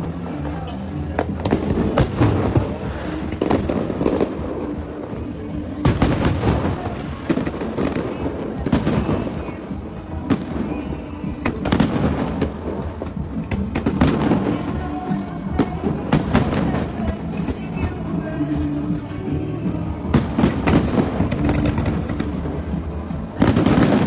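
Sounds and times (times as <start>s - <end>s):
continuous rumble: 0.0s - 24.0s
fireworks bangs: 0.0s - 24.0s.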